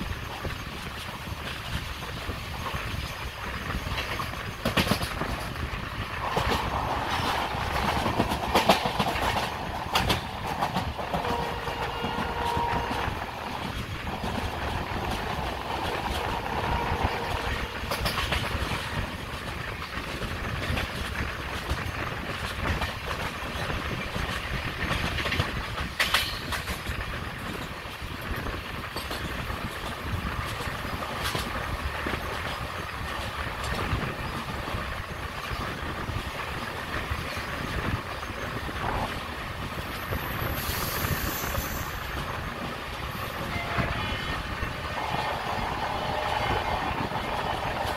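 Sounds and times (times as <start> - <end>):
train wheels rumbling on track: 0.0 - 47.9
wheels clacking over rail joints: 0.0 - 47.9.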